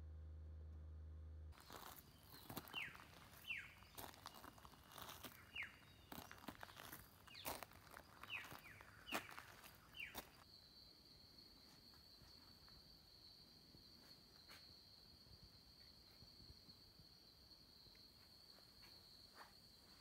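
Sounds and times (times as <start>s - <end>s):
high-pitched insect call: 1.6s - 20.0s.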